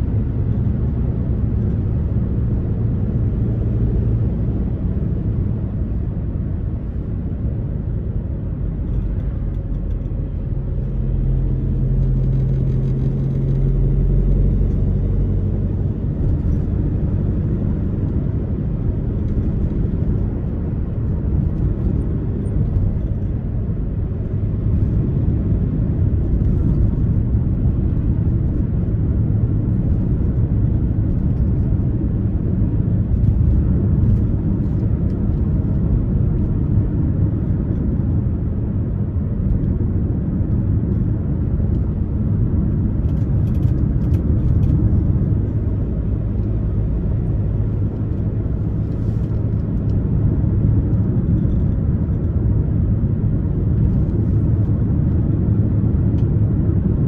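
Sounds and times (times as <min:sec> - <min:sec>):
car tyre and engine rumble: 0:00.0 - 0:57.0
low engine hum: 0:00.0 - 0:57.0.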